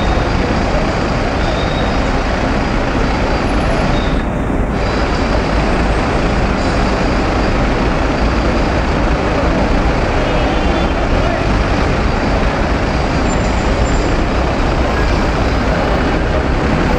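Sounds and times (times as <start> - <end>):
city street traffic noise: 0.0 - 16.9.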